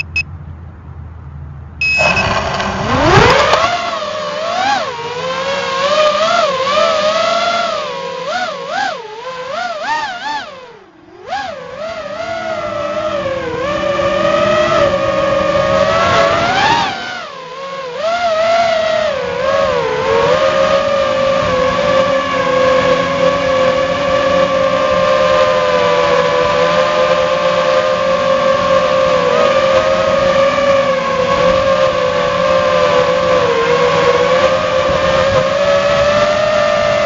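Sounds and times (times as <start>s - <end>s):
quadcopter motors whining: 0.0s - 0.2s, 1.8s - 37.0s.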